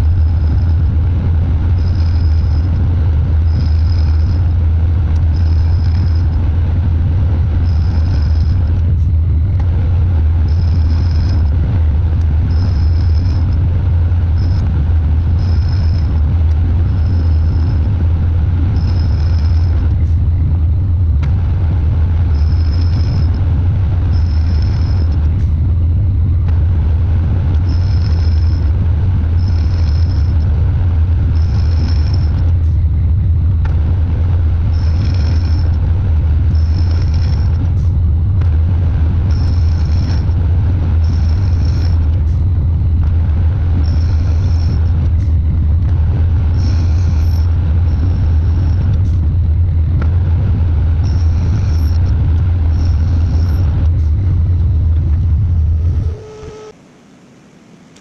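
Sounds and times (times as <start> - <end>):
lathe motor hum: 0.0 - 58.0.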